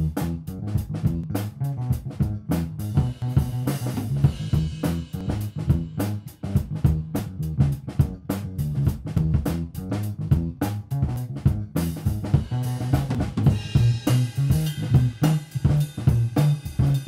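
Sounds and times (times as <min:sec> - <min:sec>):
rock music with drums: 0:00.0 - 0:17.0.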